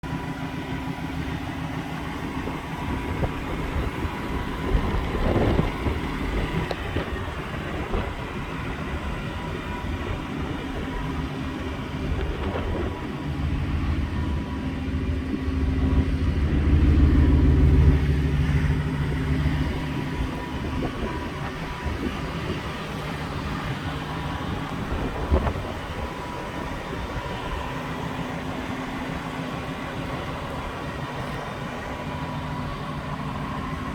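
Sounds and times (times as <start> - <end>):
vehicle engine rumbling: 0.0 - 33.9.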